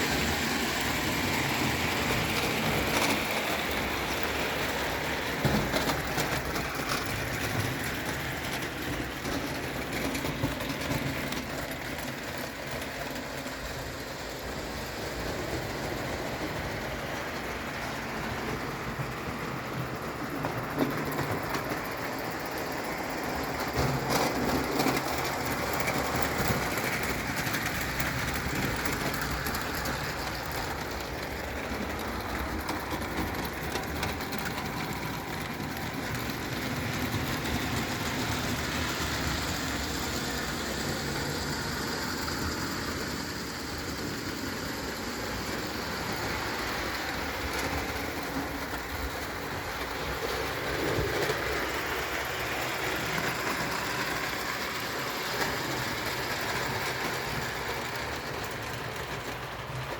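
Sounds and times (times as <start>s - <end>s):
toy train wheels clicking: 0.0s - 59.9s.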